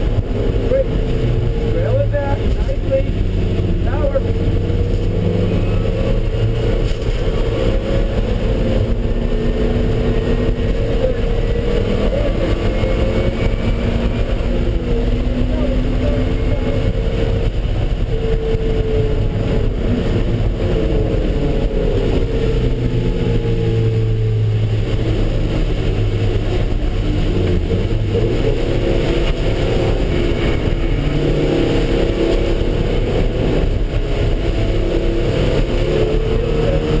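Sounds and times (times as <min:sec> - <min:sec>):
car engine accelerating: 0:00.0 - 0:37.0
road and wind noise: 0:00.0 - 0:37.0.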